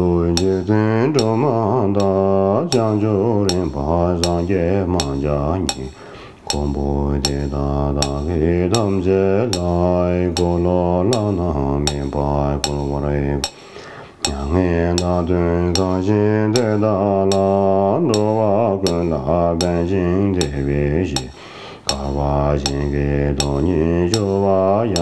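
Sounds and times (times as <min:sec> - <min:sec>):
man chanting a prayer: 0:00.0 - 0:05.9, 0:06.5 - 0:13.5, 0:14.2 - 0:21.3, 0:21.9 - 0:25.0
sharp rhythmic clicks: 0:00.0 - 0:25.0.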